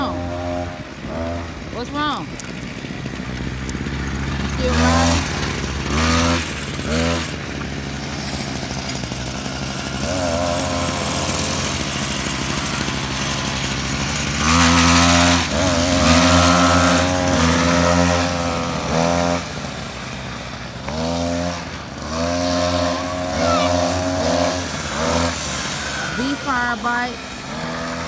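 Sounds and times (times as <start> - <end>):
mini motorcycle engine revving: 0.0 - 28.0.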